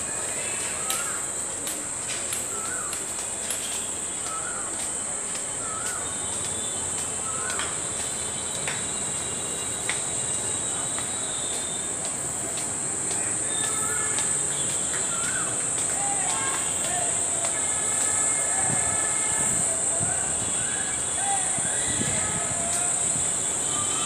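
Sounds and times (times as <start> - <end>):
faint footsteps: 0.4 - 24.0
high-pitched insect drone: 3.7 - 24.0.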